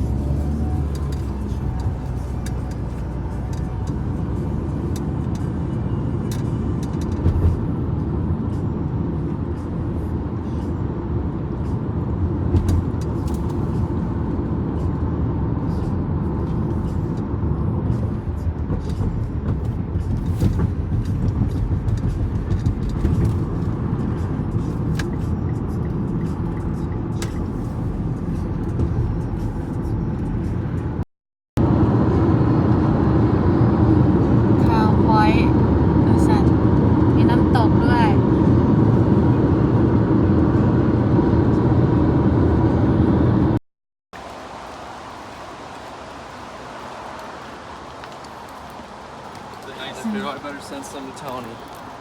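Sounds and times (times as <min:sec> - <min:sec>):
vehicle rumble from inside: 0:00.0 - 0:43.6, 0:44.2 - 0:52.0.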